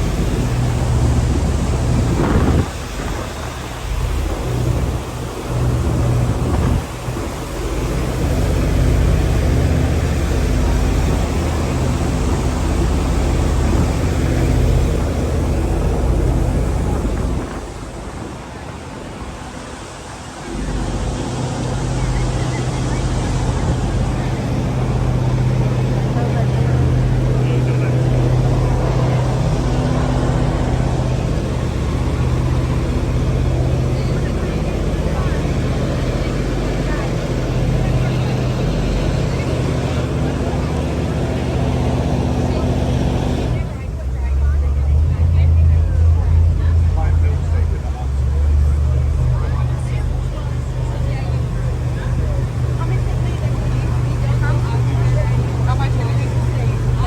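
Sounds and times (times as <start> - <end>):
vehicle motor drone: 0.0 - 57.0.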